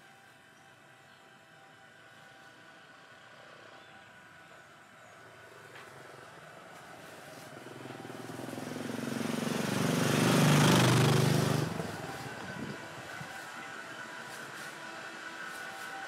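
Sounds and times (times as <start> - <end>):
small engine passing by: 3.1 - 16.0.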